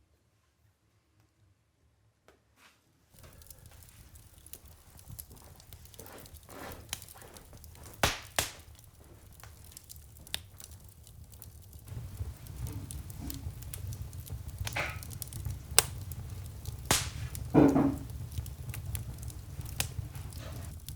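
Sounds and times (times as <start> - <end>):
wood fire crackling: 3.2 - 20.9.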